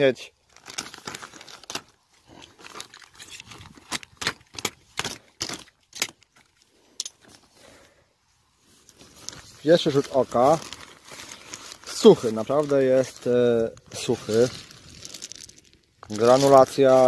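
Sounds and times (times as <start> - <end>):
plastic sack rustling and crackling: 0.4 - 7.8, 8.6 - 17.0.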